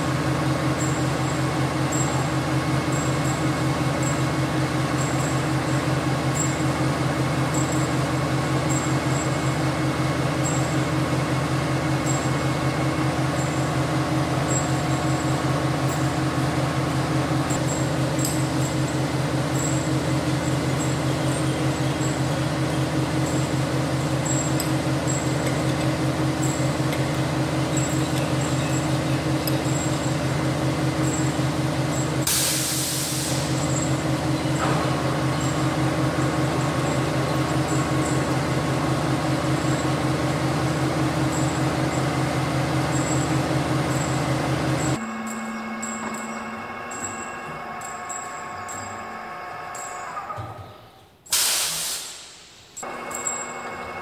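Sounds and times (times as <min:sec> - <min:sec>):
band saw humming: 0:00.0 - 0:32.4, 0:33.3 - 0:50.6.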